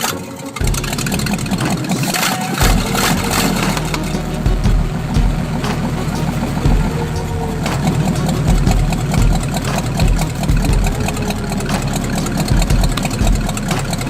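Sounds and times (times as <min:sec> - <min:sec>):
engine idling with sharp pulses: 0:00.0 - 0:14.0.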